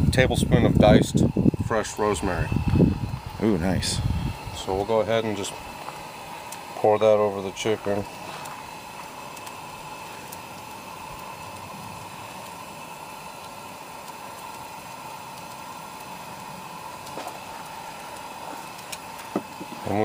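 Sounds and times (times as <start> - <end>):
constant hum: 0.0 - 20.0.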